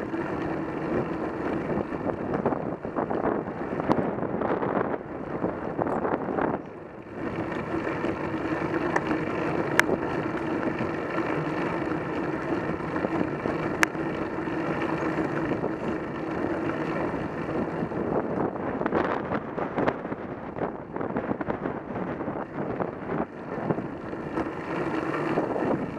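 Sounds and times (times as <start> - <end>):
road and tyre noise: 0.0 - 25.9
wind buffeting microphone: 0.0 - 25.9.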